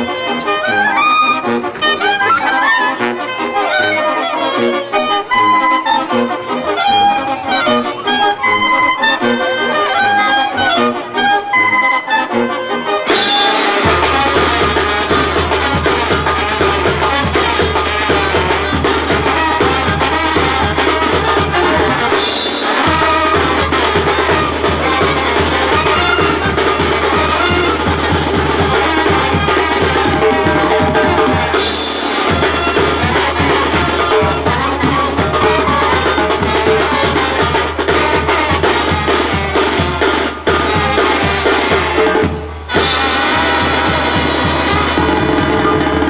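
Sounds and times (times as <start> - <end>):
brass band playing: 0.0 - 46.0.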